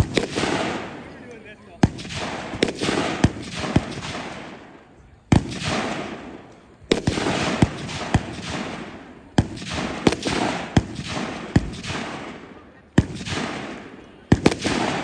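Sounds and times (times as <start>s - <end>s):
gunshots with rolling echo: 0.0s - 15.0s.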